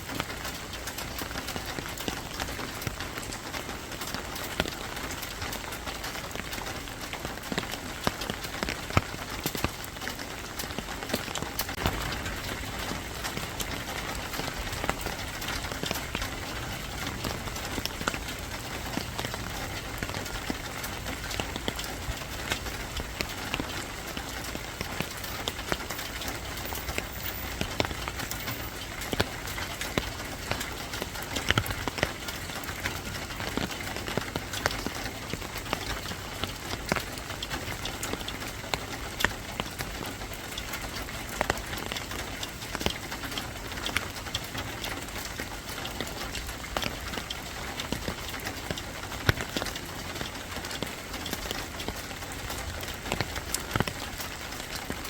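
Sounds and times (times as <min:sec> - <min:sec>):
steady rain hiss: 0:00.0 - 0:55.0
drops ticking on hard surface: 0:00.1 - 0:55.0.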